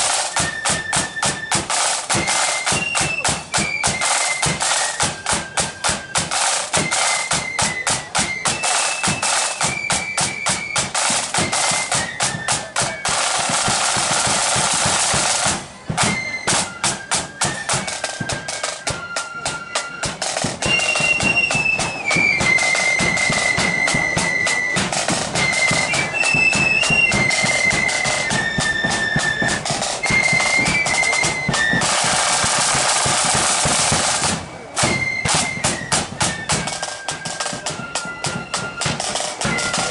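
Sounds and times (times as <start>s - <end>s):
shrill flute notes: 0.0s - 39.9s
snare drumming: 0.0s - 39.9s.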